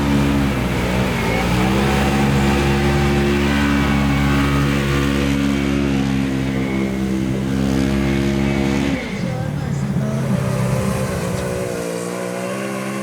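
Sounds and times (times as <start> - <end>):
engine running at high revs: 0.0 - 13.0.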